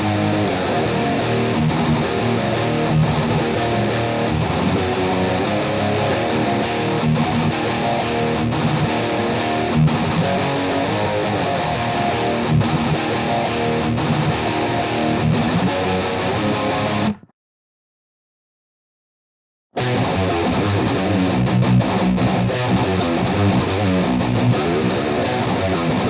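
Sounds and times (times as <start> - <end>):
distorted electric guitar riff: 0.0 - 17.3, 19.8 - 26.0.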